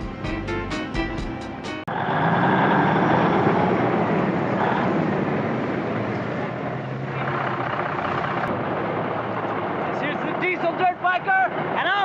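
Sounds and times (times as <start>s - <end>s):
truck diesel engine driving: 0.0s - 12.0s.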